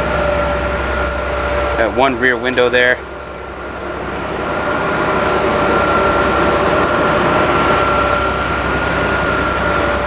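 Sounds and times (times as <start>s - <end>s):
bus diesel engine idling: 0.0s - 10.0s
steady whine tones: 0.0s - 10.0s.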